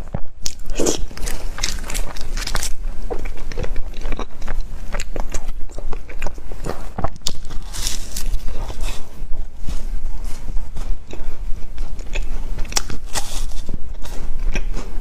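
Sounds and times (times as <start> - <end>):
biting and chewing: 0.1 - 9.2, 10.8 - 15.0.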